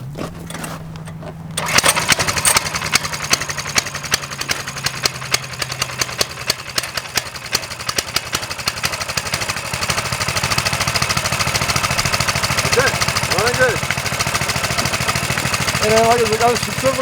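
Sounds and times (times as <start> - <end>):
mini bike engine idling: 0.0 - 17.0.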